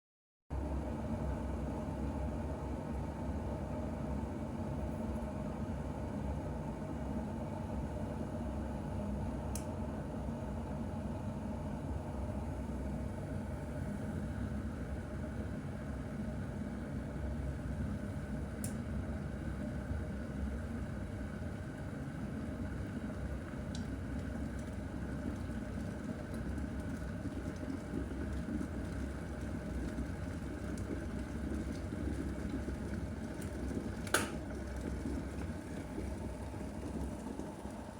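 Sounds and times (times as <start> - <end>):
kettle heating water rumble: 0.5 - 37.9.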